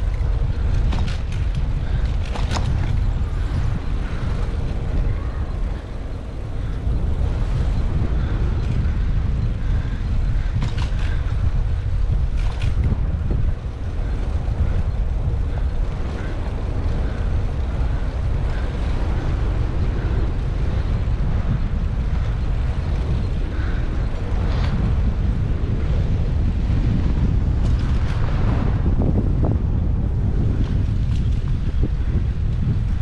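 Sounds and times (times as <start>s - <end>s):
road and traffic noise: 0.0s - 33.0s
wind buffeting microphone: 0.0s - 33.0s.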